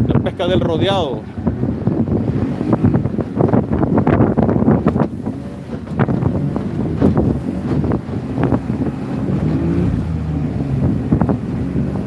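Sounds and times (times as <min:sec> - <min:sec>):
water splashing against hull: 0:00.0 - 0:12.0
wind buffeting microphone: 0:00.0 - 0:12.0
outboard motor running: 0:00.1 - 0:12.0.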